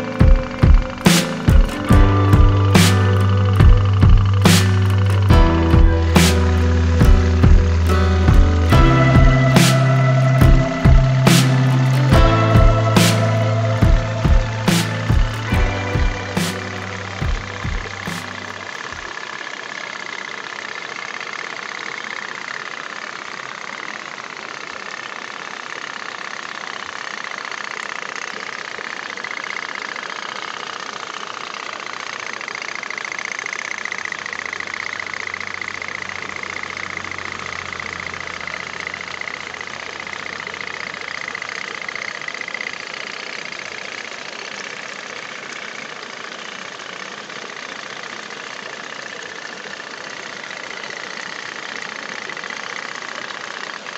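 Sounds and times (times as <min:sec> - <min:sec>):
pop-pop toy boat engine: 0:00.0 - 0:53.9.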